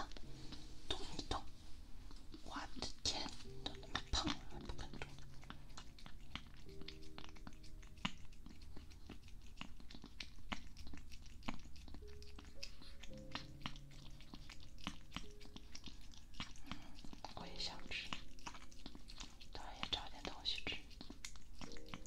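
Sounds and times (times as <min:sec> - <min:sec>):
cat licking and chewing: 0:00.0 - 0:22.0.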